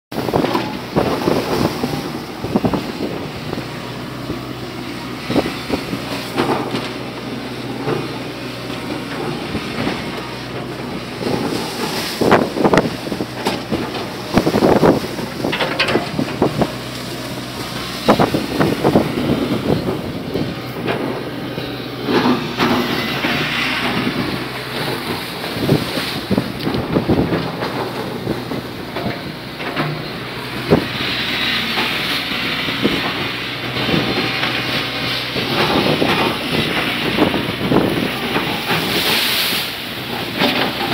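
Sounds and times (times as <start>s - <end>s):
low engine hum: 0.1s - 40.9s
wind buffeting microphone: 0.1s - 40.9s.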